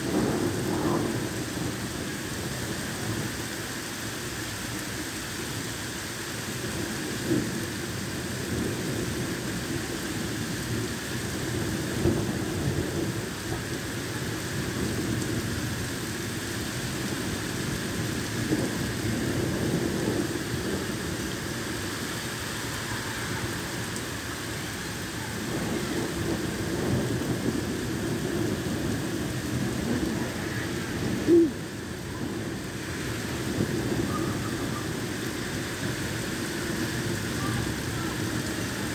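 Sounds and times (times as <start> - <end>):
thunder rumbling: 0.0 - 3.4, 6.6 - 16.0, 16.6 - 38.9
heavy rain on a flooded street: 0.0 - 38.9.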